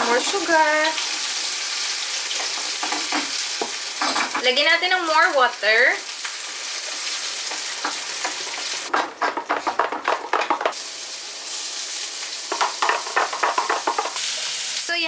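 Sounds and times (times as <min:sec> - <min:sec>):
food sizzling in a pan: 0:00.0 - 0:09.0, 0:10.3 - 0:15.0.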